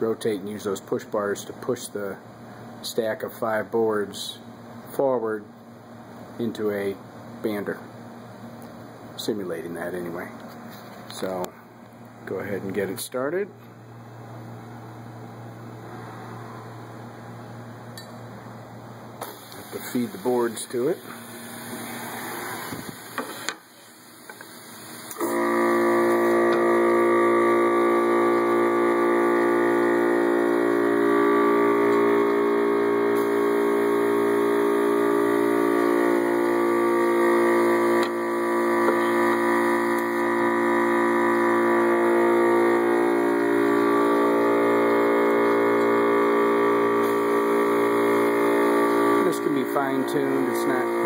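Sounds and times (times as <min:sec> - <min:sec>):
loud electric hum: 0:00.0 - 0:51.0.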